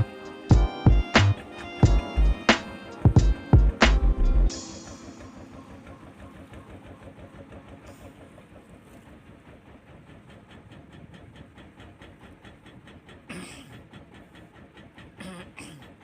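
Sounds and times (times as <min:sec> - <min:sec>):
engine running with pulsing beat: 0:00.0 - 0:16.0.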